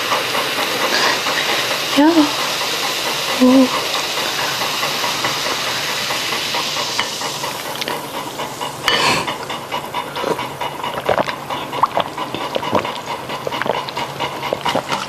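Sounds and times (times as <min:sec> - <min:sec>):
soft drink fizzing: 0:00.0 - 0:15.0.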